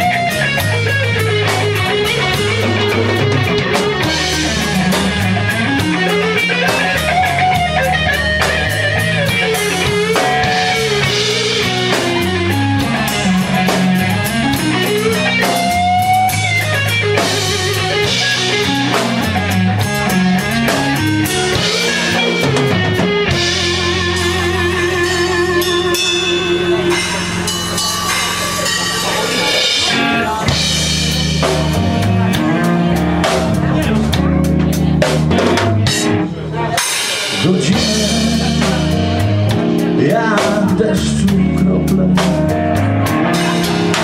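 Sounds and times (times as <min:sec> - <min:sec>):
bass guitar: 0:00.0 - 0:44.0
drums: 0:00.0 - 0:44.0
lead electric guitar melody: 0:00.0 - 0:44.0.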